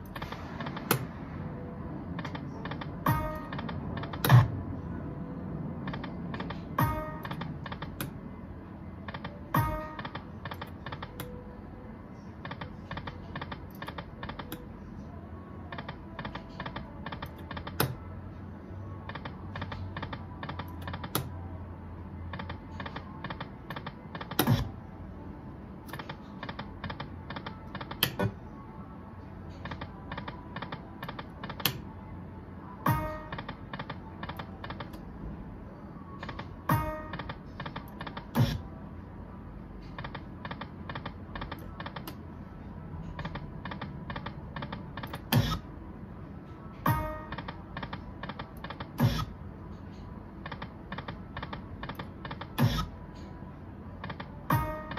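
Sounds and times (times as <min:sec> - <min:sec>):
electronic game music: 0:00.0 - 0:39.0, 0:39.8 - 0:45.9, 0:46.5 - 0:49.6, 0:50.5 - 0:53.3, 0:53.9 - 0:54.9.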